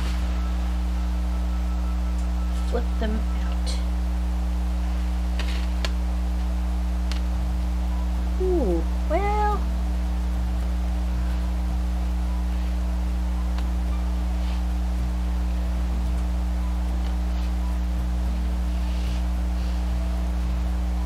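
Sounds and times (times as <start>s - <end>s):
steady low hum with tones: 0.0s - 21.0s.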